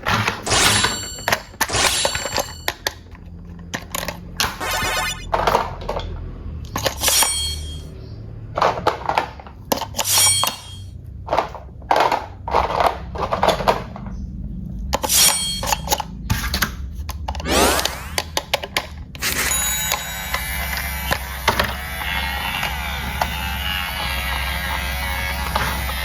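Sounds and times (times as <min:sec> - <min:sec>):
hard objects clattering: 0:00.0 - 0:07.9, 0:08.6 - 0:21.8.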